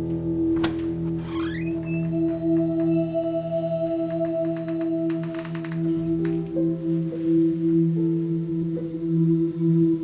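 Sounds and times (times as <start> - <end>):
soft ambient music: 0.0 - 10.0.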